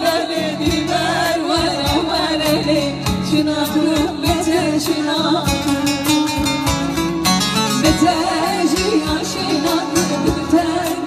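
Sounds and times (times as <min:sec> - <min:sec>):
person singing over a band: 0:00.0 - 0:06.1, 0:07.8 - 0:11.0.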